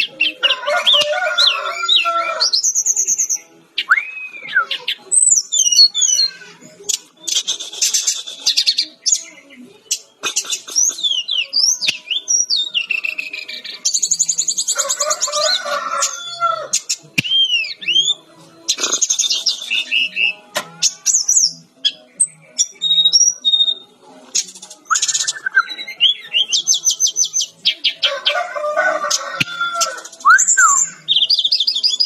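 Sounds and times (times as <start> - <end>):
bird singing varied song: 0.0 - 32.0.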